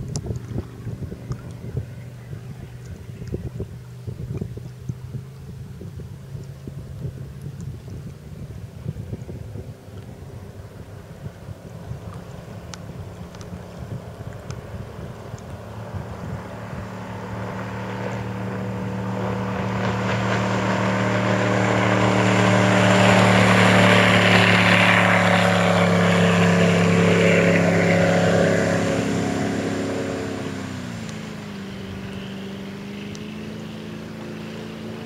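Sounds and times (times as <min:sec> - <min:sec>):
speedboat engine passing: 0:00.0 - 0:35.0.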